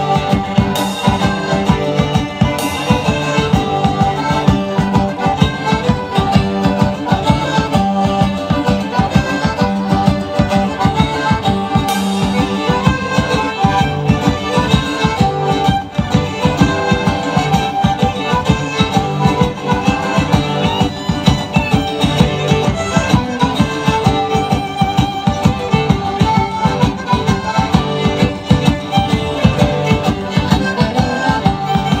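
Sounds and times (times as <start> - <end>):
accordion folk dance music: 0.0 - 32.0.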